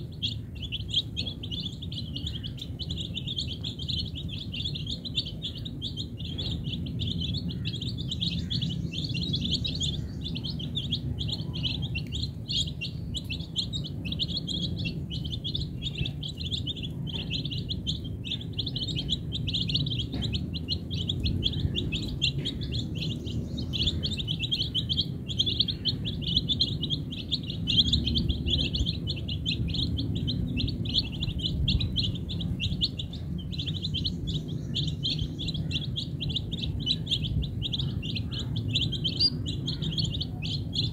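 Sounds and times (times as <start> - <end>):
chicks peeping: 0.0 - 40.9
steady low rumble: 0.0 - 40.9.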